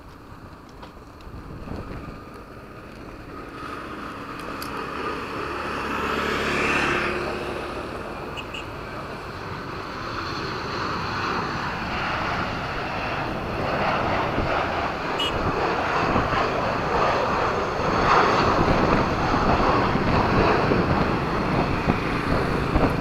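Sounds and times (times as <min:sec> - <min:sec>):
airplane coming in to land: 0:00.2 - 0:23.0
motorcycle passing: 0:02.9 - 0:23.0.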